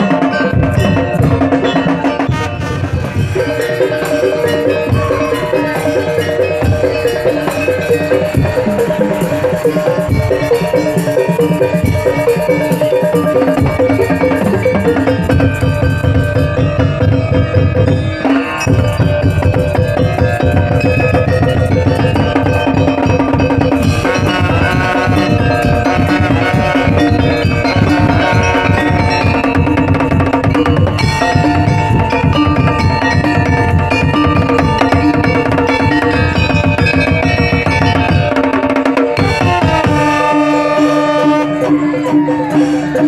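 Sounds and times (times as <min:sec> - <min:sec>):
busy drumming: 0:00.0 - 0:43.0
melodic instruments playing: 0:00.0 - 0:43.0.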